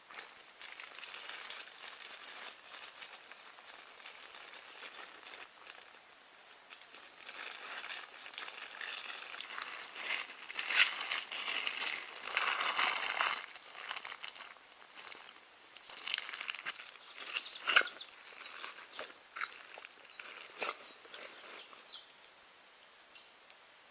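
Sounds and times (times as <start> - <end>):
material crinkling and rustling: 0.0 - 22.1.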